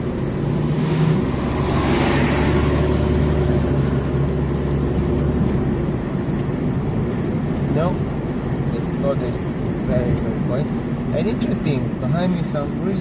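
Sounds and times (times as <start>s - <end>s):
passing car tyre and wind rush: 0.0s - 11.1s
car interior engine and road drone: 0.0s - 13.0s.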